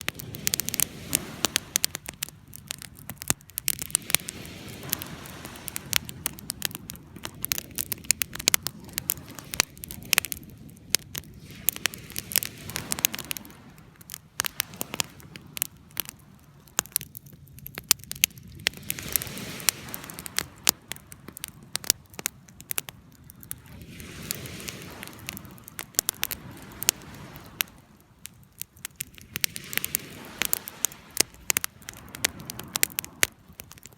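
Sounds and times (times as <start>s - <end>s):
fire crackling and popping: 0.0s - 33.9s.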